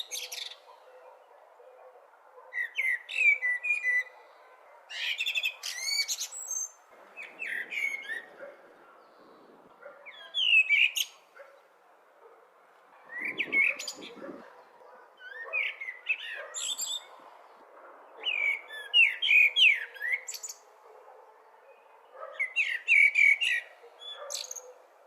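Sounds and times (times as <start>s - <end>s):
blackbird singing: 0.0s - 11.7s, 13.0s - 17.2s, 18.0s - 24.9s.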